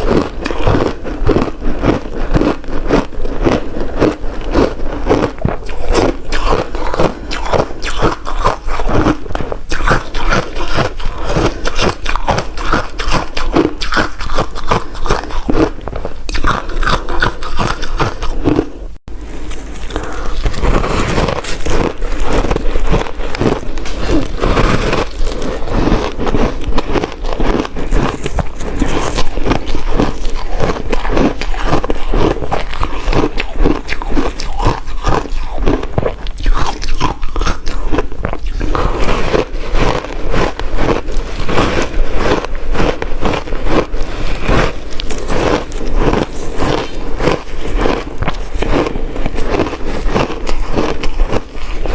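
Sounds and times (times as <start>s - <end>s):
ice crunching being chewed: 0.0s - 51.9s.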